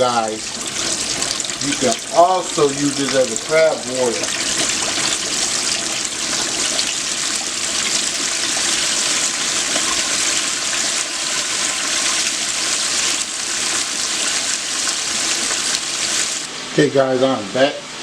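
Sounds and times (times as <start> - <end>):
chicken deep-frying in oil: 0.0 - 16.5.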